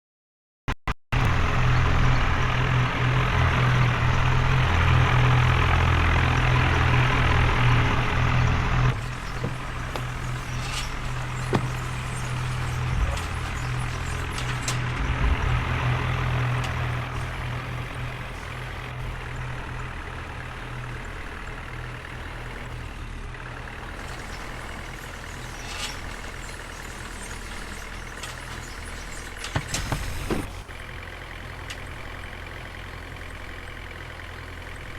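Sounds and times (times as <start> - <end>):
diesel tractor engine running: 1.2 - 34.9.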